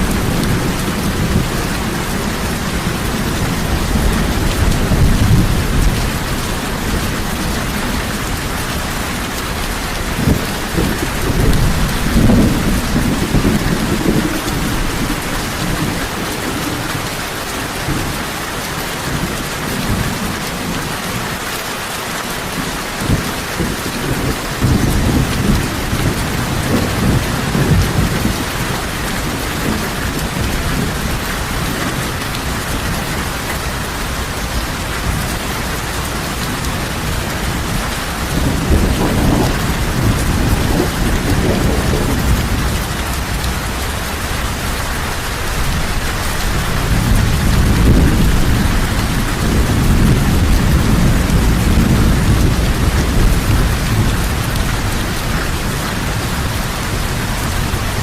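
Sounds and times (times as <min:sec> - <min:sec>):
low rolling thunder: 0:00.0 - 0:18.4, 0:22.9 - 0:58.0
heavy rain falling: 0:00.0 - 0:58.0.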